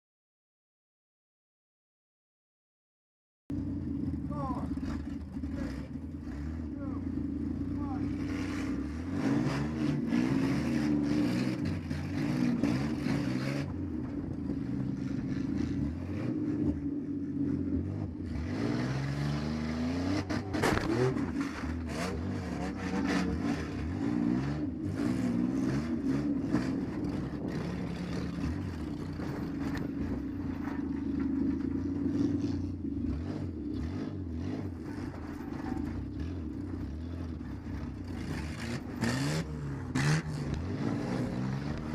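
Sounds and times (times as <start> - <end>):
van engine revving: 3.5 - 41.9.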